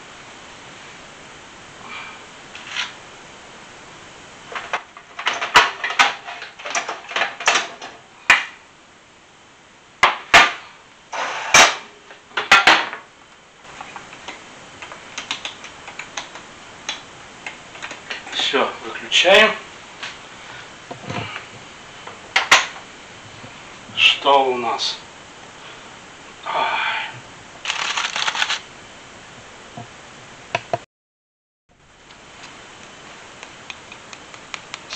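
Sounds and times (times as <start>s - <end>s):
steady hiss: 0.0s - 30.8s, 31.7s - 34.9s.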